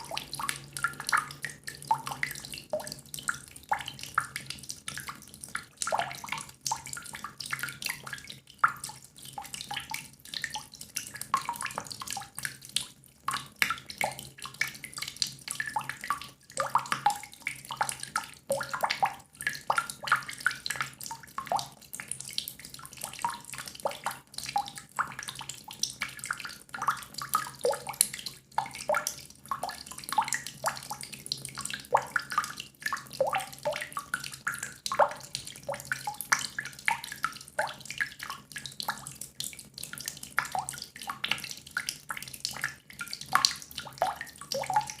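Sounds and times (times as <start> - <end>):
water drops plinking into water: 0.0 - 45.0.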